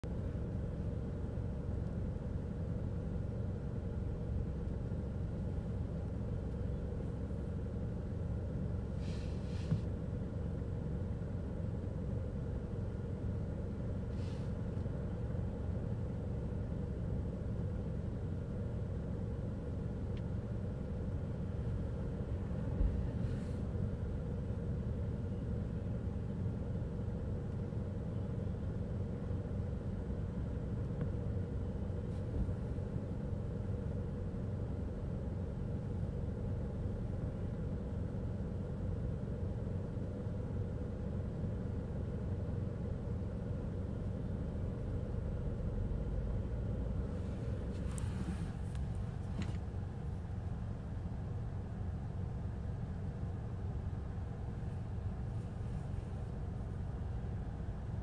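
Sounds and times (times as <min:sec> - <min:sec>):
faint steady hum: 0:00.0 - 0:58.0
low rumble of motor traffic: 0:00.0 - 0:58.0.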